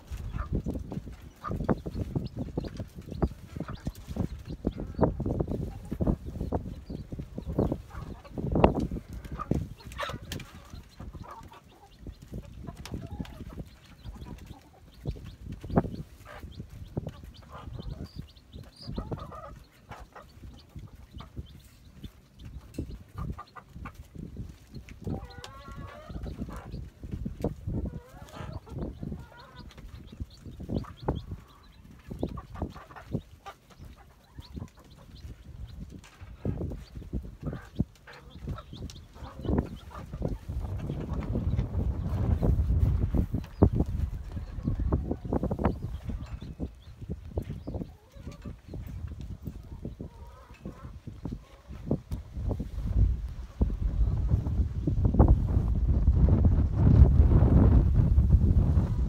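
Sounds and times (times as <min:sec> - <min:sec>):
hen clucking: 0:00.0 - 0:54.4
chicks peeping: 0:00.0 - 0:59.0.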